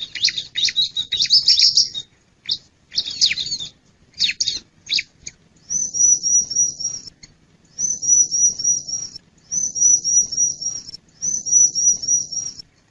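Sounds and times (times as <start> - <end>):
bird singing buzzy notes: 0.0 - 12.6.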